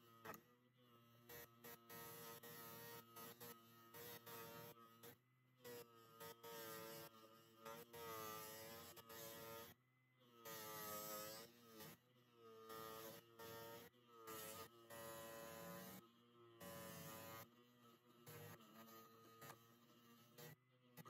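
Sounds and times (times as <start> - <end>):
electric motor buzzing: 0.0 - 21.0.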